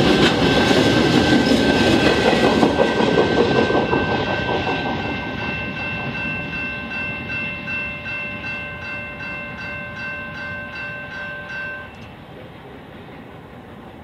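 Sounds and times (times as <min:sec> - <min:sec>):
railroad crossing bell ringing: 0:00.0 - 0:12.4
freight train rumbling past: 0:00.0 - 0:14.0.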